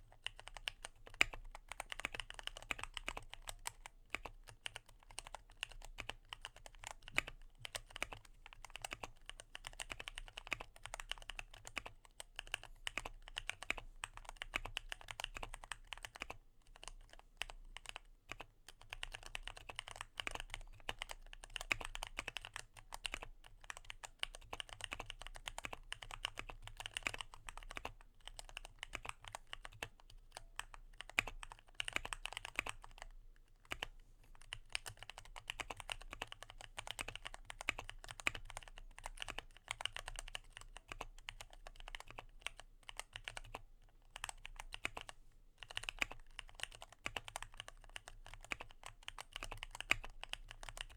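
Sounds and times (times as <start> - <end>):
fast mechanical keyboard typing: 0.1 - 50.9.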